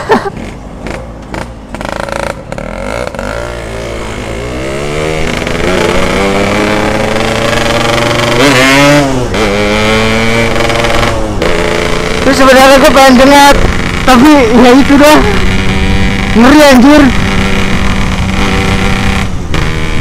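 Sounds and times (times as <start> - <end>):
motorcycle engine accelerating: 0.3 - 20.0.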